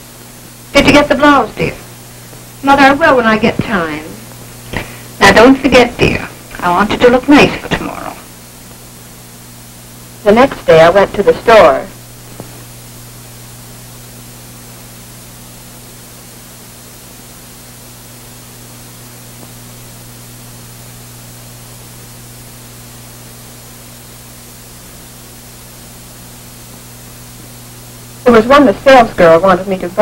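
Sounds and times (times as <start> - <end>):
film soundtrack hiss: 0.0 - 30.0
low even hum: 0.0 - 30.0.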